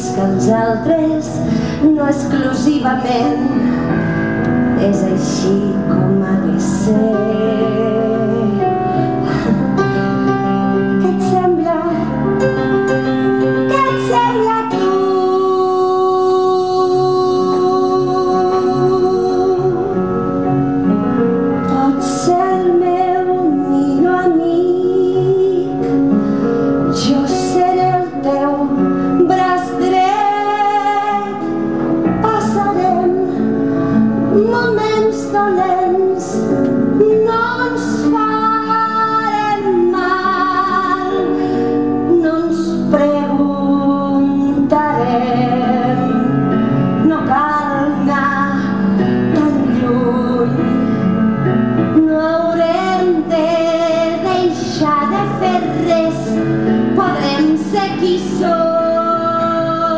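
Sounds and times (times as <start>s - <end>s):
woman singing with vibrato: 0.0s - 4.0s, 4.6s - 20.5s, 21.6s - 26.0s, 26.9s - 33.6s, 34.2s - 59.9s
piano: 0.0s - 59.9s.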